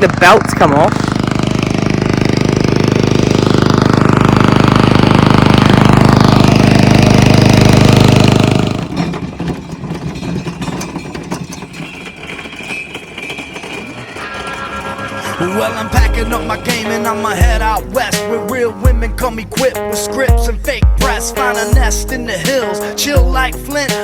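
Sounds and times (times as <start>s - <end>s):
ride-on lawnmower engine running: 0.0s - 24.0s.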